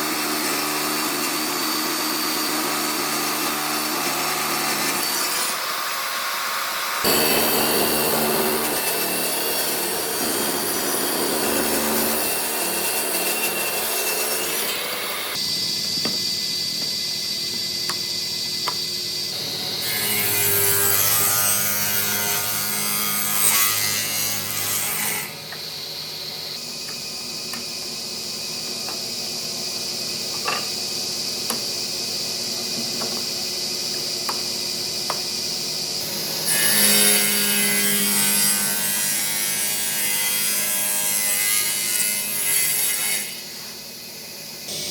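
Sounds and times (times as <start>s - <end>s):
power tools working wood: 0.0s - 18.0s, 18.6s - 28.0s, 35.9s - 44.0s, 44.6s - 44.9s.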